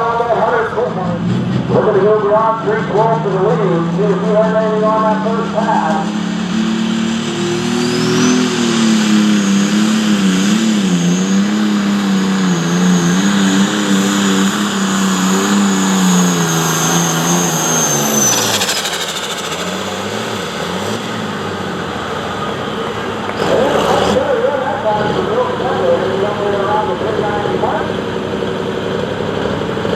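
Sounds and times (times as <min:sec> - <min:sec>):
high whine: 0:00.0 - 0:28.5
tractor engine running hard: 0:00.0 - 0:29.9.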